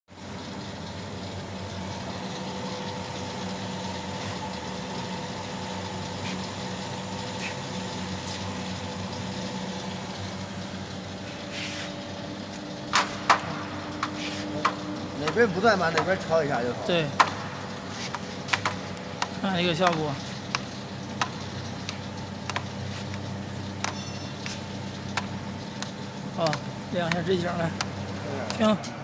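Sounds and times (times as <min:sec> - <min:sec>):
sheeting machine motor hum: 0:00.1 - 0:29.0.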